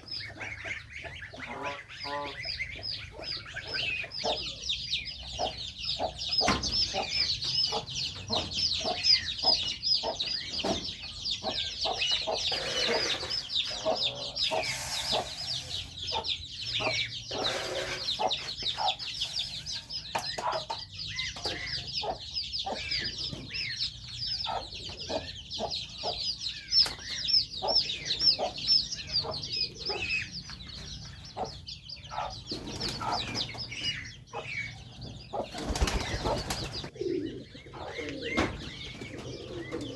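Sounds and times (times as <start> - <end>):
goslings peeping: 0.0 - 39.9.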